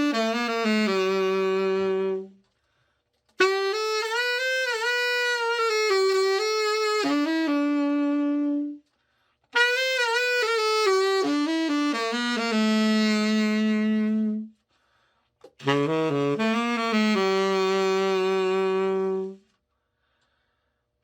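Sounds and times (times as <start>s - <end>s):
tenor saxophone playing: 0.0s - 14.7s, 15.4s - 19.6s.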